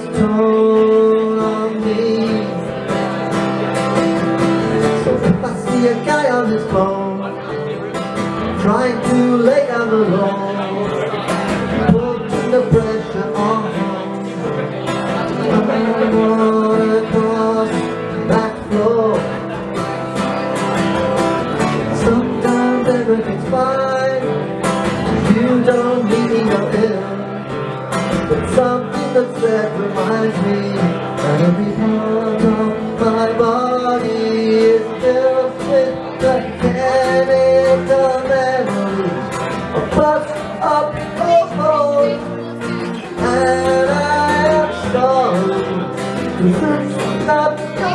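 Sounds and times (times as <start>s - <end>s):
acoustic guitar strumming: 0.0s - 47.9s
man singing: 0.0s - 47.9s.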